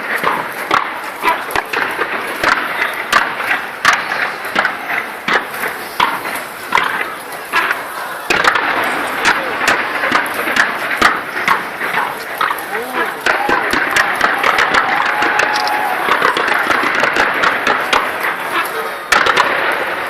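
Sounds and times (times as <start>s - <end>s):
crowd chatter: 0.0s - 20.0s
fireworks bursting: 0.0s - 20.0s.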